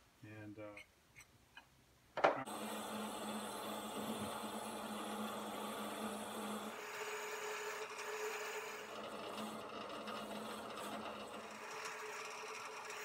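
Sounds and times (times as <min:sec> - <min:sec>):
drill press motor hum: 0:02.5 - 0:13.0
wire wheel scratching metal: 0:02.5 - 0:13.0.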